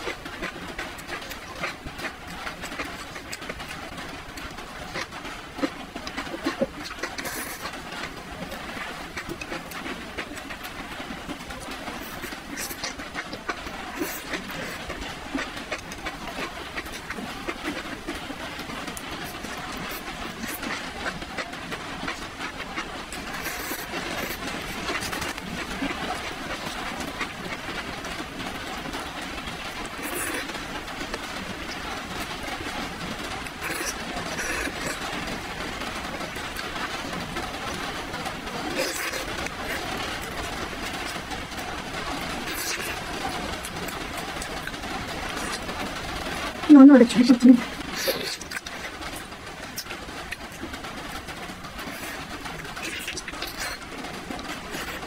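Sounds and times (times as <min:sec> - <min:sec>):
chewing and slurping: 0:00.0 - 0:55.0.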